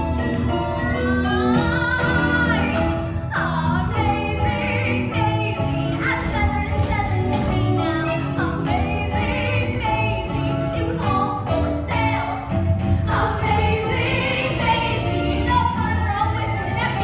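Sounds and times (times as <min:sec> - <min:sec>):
instrumental accompaniment with bass: 0:00.0 - 0:17.0
women singing: 0:00.8 - 0:17.0.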